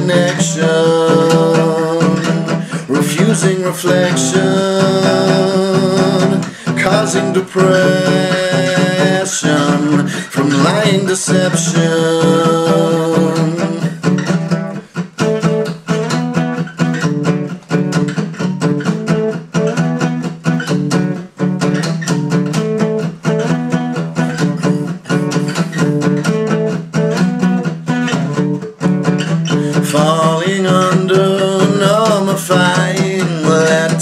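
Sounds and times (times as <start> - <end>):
strummed guitar chords: 0.0 - 34.0.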